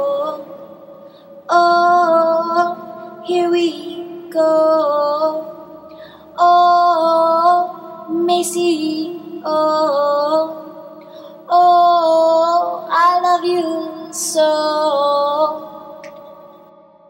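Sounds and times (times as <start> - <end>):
woman singing long notes: 0.0 - 0.6, 1.5 - 16.5.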